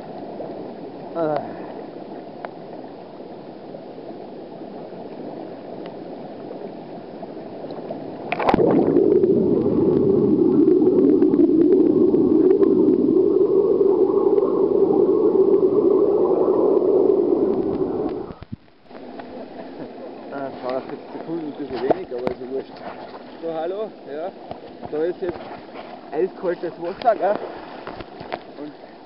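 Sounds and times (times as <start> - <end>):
pool water bubbling: 4.8 - 29.0
underwater bubbling rush: 4.9 - 29.0.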